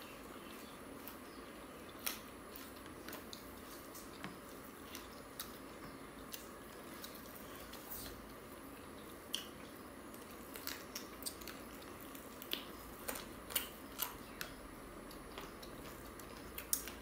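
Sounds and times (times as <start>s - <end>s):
chewing and mouth smacks: 1.8s - 17.0s.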